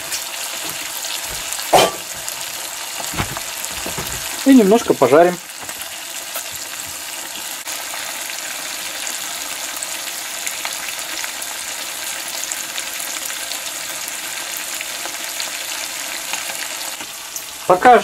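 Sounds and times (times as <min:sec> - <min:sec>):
food frying in hot oil: 0:00.0 - 0:18.0.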